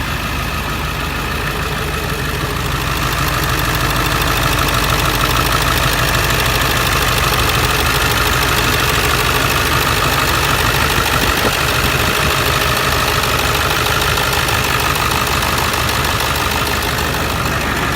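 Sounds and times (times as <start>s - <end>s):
truck engine idling: 0.0s - 17.9s.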